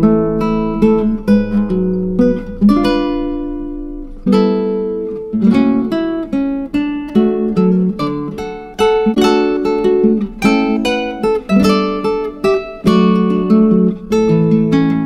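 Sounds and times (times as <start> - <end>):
plucked acoustic guitar tune: 0.0 - 15.0.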